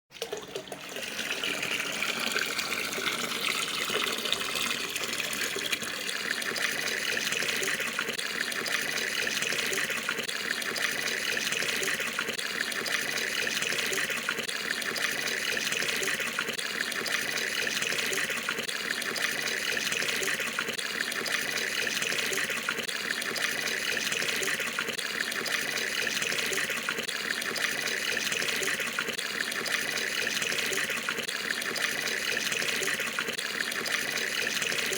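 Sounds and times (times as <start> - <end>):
tap water pouring into a tub: 0.1 - 34.9.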